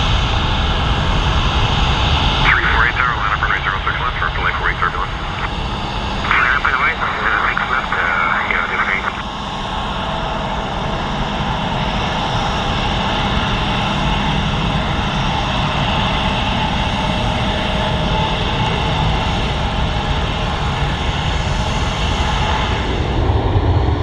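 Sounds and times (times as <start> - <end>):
airliner jet engines at takeoff: 0.0 - 24.0
business jet taxiing: 0.0 - 24.0.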